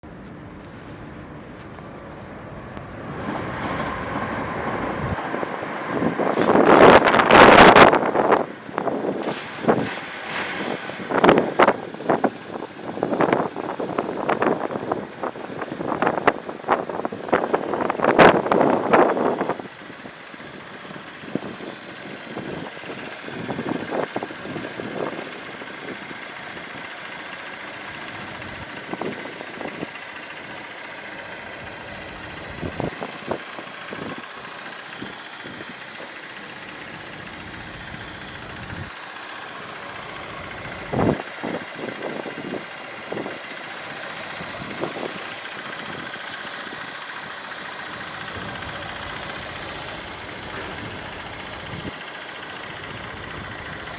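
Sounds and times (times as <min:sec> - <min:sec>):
steady engine hum: 0:00.0 - 0:53.9.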